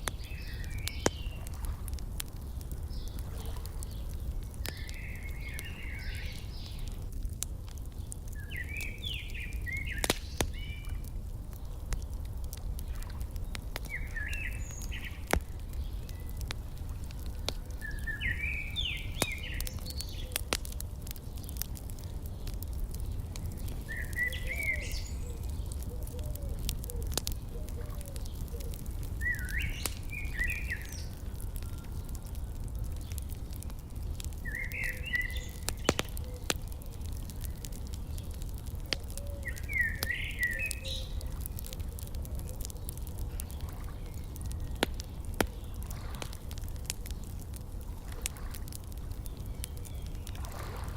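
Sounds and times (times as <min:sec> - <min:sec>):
songbird chirping: 0:00.0 - 0:01.7, 0:02.3 - 0:07.1, 0:07.9 - 0:46.2
wood fire crackling: 0:00.0 - 0:50.9.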